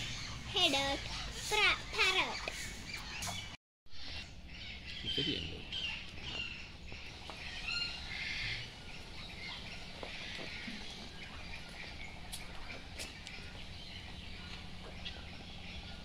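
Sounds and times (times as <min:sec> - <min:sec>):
birds chirping and chattering: 0:00.0 - 0:16.0.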